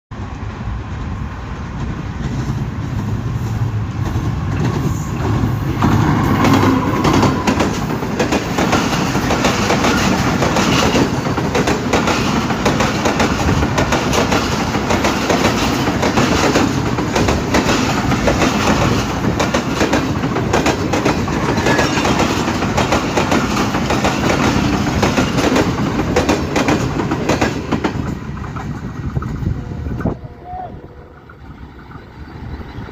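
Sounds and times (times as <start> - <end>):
train wheels clattering on rails: 0.2 - 30.2.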